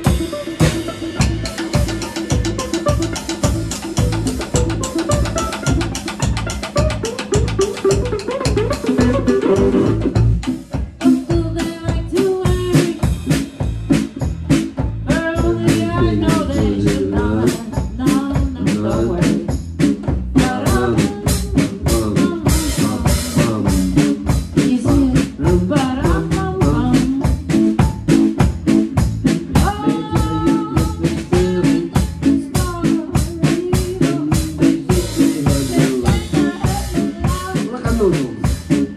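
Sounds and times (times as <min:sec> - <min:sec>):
drums and cymbal hits: 0:00.0 - 0:38.9
electric guitar line: 0:00.0 - 0:38.9.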